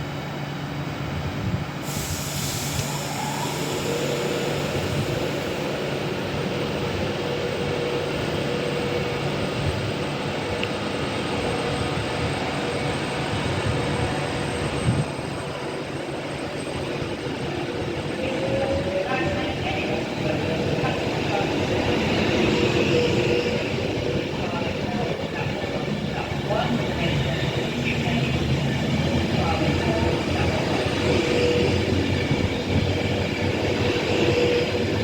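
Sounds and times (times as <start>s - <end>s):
train wheels rumbling: 0.0s - 35.0s.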